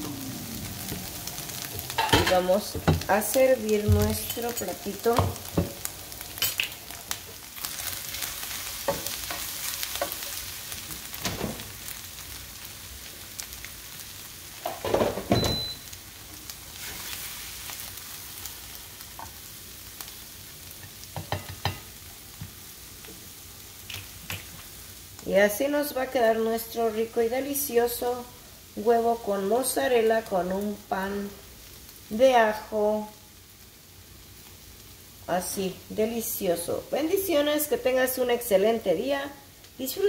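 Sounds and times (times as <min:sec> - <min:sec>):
eggs sizzling in frying pan: 0:00.0 - 0:40.0.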